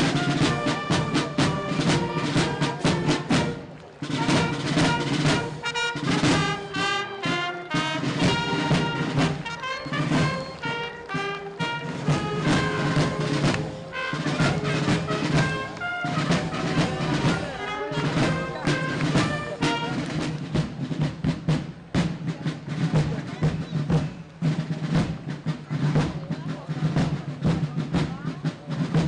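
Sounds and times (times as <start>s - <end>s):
brass band playing march: 0.0s - 29.0s
rapid drumming: 0.0s - 29.0s.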